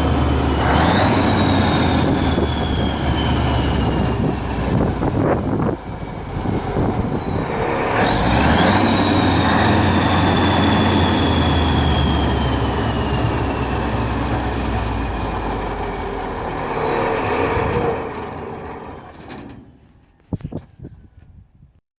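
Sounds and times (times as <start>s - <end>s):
diesel engine running loud: 0.0s - 19.6s.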